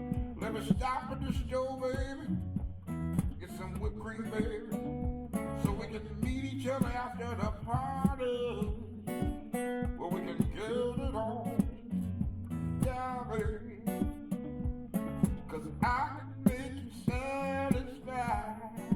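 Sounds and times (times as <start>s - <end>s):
slow r and b instrumental: 0.0s - 18.9s.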